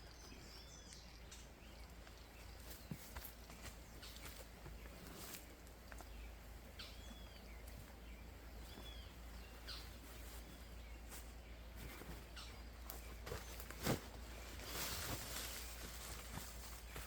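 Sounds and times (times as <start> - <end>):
bird chirps: 0.0 - 13.9.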